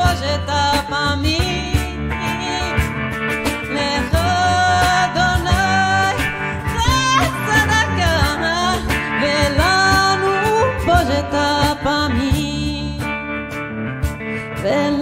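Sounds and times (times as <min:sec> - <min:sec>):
woman singing: 0:00.0 - 0:02.9, 0:03.5 - 0:13.2, 0:14.6 - 0:15.0
hand percussion: 0:00.0 - 0:12.7
electric guitar: 0:00.0 - 0:15.0.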